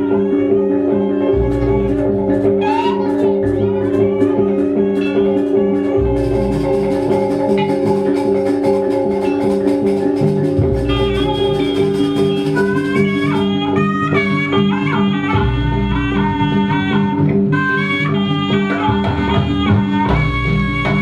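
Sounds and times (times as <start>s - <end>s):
gamelan music: 0.0s - 21.0s
wavering melody line: 0.0s - 21.0s.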